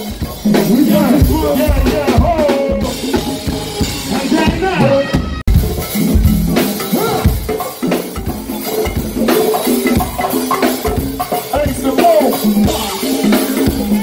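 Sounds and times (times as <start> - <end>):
fast conga drumming: 0.0 - 14.0
live band music: 0.0 - 14.0.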